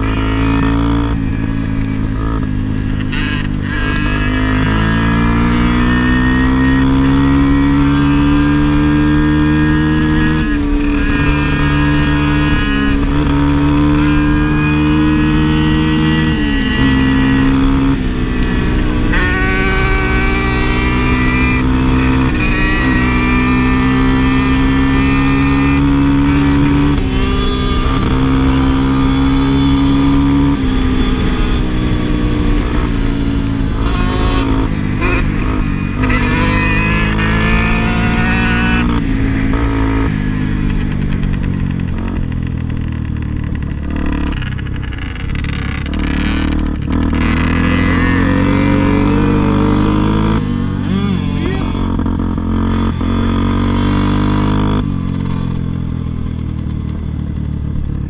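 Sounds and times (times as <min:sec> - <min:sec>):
vehicle engine shifting gears: 0:00.0 - 0:58.0.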